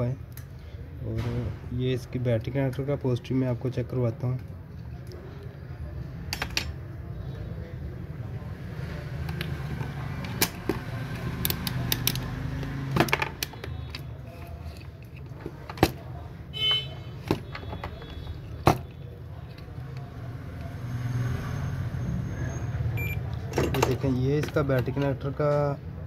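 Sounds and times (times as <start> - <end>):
background traffic rumble: 0.0 - 26.0.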